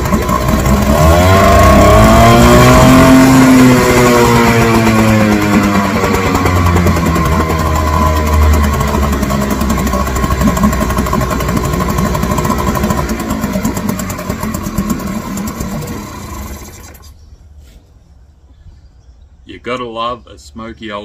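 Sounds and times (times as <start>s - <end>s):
outboard motor running: 0.0s - 17.2s.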